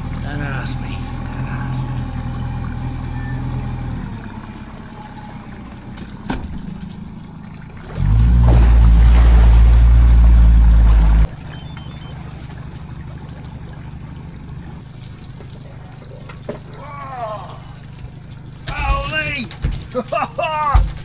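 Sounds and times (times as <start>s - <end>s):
loud low motor drone: 0.0s - 18.4s
boat motor humming: 0.0s - 21.0s.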